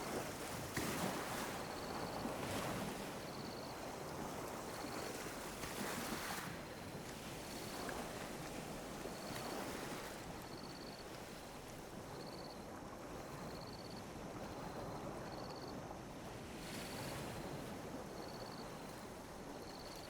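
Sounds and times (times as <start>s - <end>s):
gentle ocean waves lapping: 0.0s - 20.0s.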